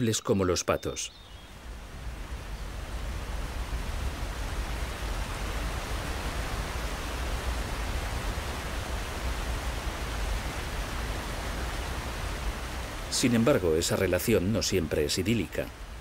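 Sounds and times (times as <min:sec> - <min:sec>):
flowing water rushing: 0:01.5 - 0:16.0.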